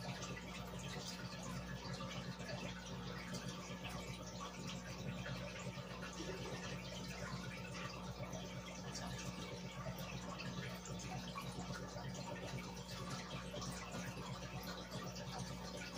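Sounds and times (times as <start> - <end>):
aquarium air bubbles: 0.0 - 15.9.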